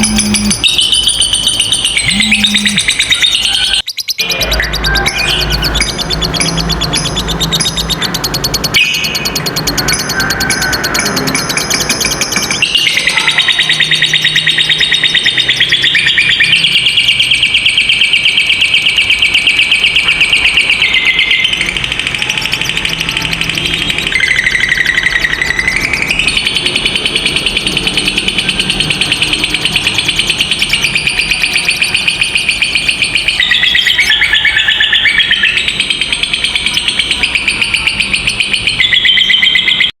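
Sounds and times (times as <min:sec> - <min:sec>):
lovebirds chattering trill: 0:00.0 - 0:39.9.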